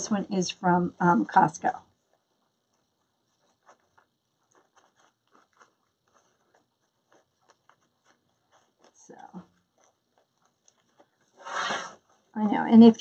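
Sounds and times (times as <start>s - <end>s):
ribbon crinkling: 1.9s - 12.4s.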